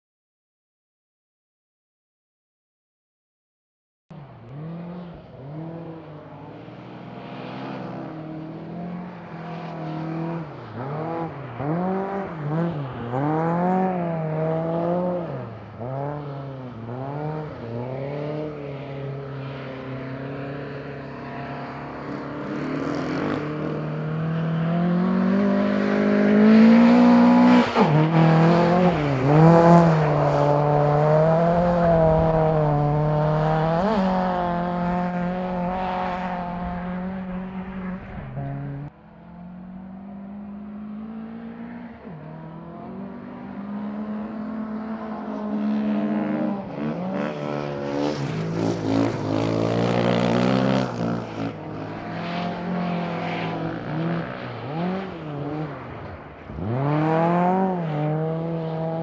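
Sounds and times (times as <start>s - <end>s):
rally car engine revving: 4.1s - 19.7s, 20.4s - 59.0s.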